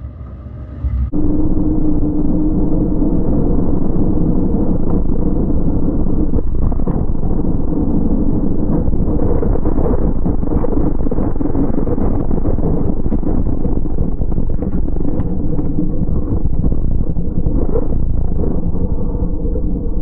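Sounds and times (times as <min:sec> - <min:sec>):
wind noise: 0:00.0 - 0:20.0.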